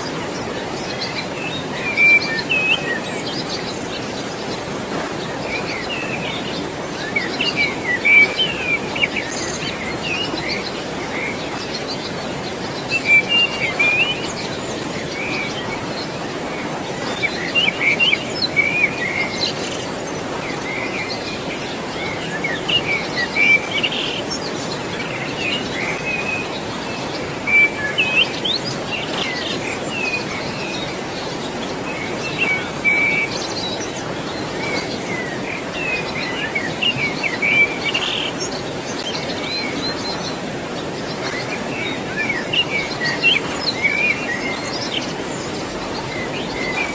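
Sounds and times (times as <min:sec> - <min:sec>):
birds chirping and whistling: 0:00.0 - 0:46.9
flowing water: 0:00.0 - 0:46.9.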